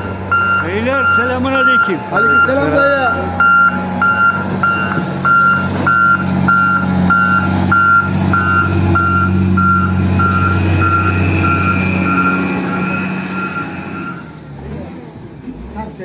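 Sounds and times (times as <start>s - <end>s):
reversing alarm beeping: 0.0s - 14.4s
diesel engine running: 0.0s - 16.0s.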